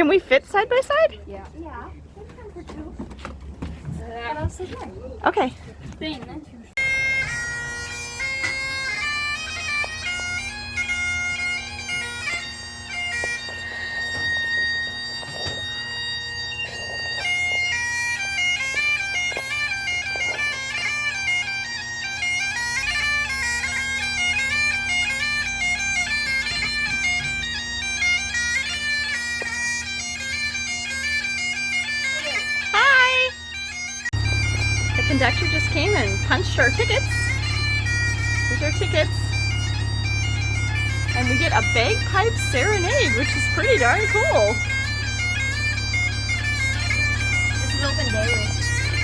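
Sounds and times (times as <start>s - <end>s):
bagpipes playing a tune: 0.0s - 3.0s, 6.8s - 49.0s.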